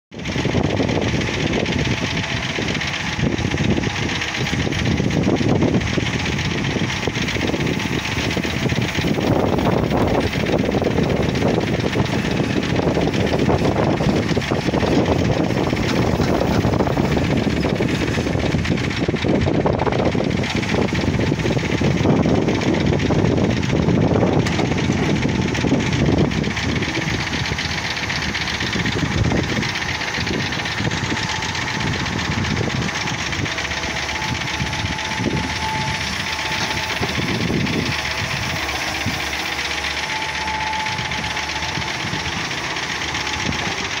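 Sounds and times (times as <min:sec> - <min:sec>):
excavator diesel engine: 0:00.1 - 0:44.0.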